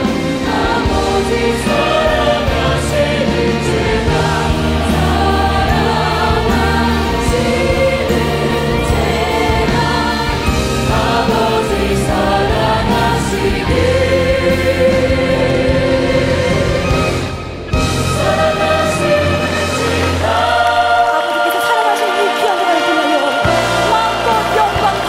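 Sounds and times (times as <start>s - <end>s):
large choir singing: 0.0s - 25.0s
orchestral accompaniment: 0.0s - 25.0s.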